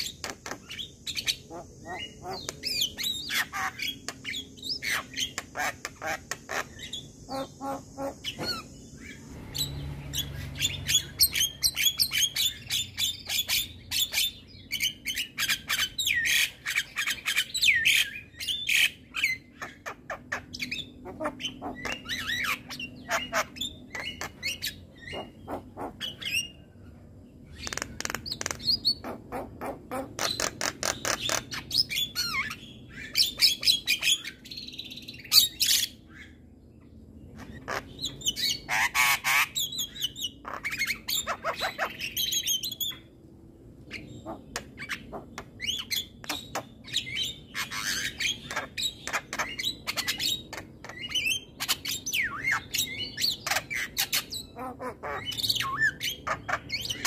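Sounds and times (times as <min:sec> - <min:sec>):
bird chattering song: 0:00.0 - 0:43.2, 0:43.8 - 0:57.0.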